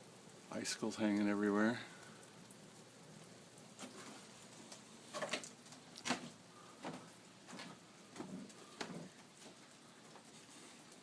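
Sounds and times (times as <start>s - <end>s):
ice and meltwater dripping: 0.0s - 11.0s.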